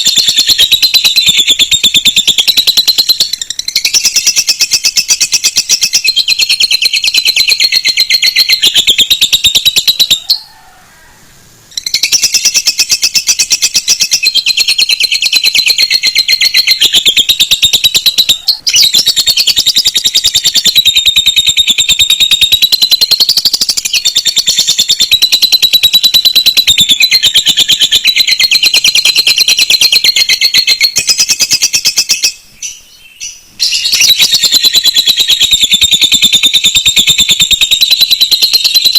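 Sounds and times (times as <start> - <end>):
bird singing rapid high trill: 0.0 - 10.5, 11.7 - 38.9.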